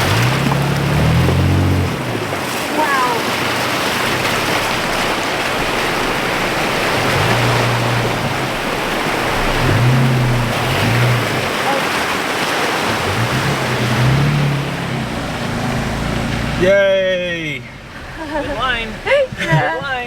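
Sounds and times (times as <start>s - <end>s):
off-road engine revving: 0.0s - 19.9s.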